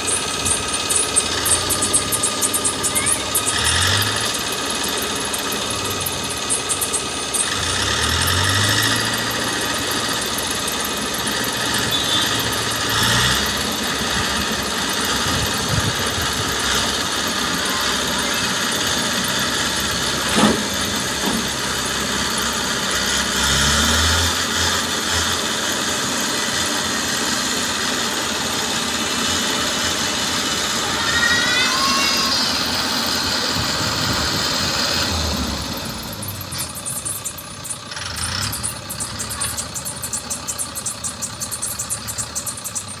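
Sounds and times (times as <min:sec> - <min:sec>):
diesel engines running: 0:00.0 - 0:43.0.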